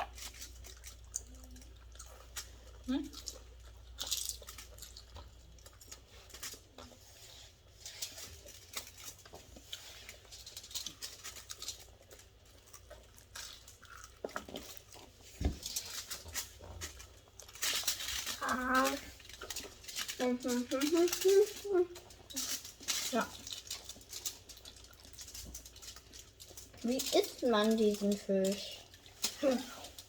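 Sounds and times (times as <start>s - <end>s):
chewing and lip smacking: 0.0s - 18.4s, 21.5s - 27.4s
food clicks and crunches: 0.0s - 30.0s.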